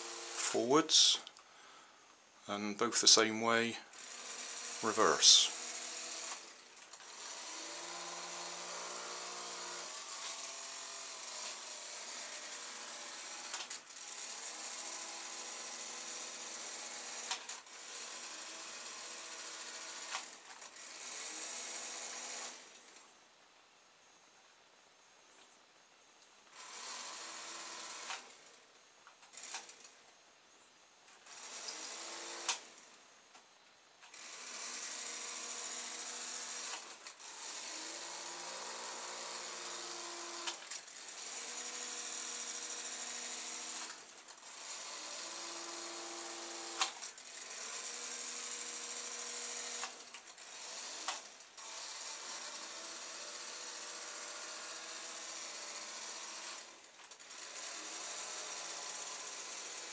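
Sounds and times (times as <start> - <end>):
small electric motors whirring: 3.9 - 23.0, 26.5 - 28.6, 29.2 - 30.0, 31.1 - 32.8, 34.0 - 59.9.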